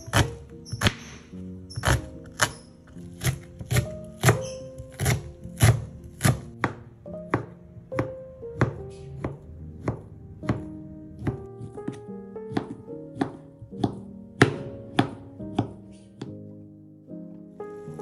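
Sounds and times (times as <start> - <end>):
knife chopping on plastic board: 0.0 - 16.4
soft background music: 0.0 - 18.0.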